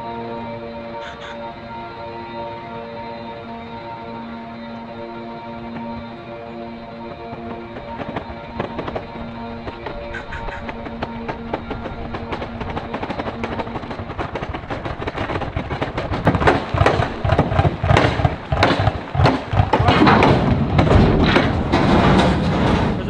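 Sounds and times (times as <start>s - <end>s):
held music notes: 0.0s - 23.0s.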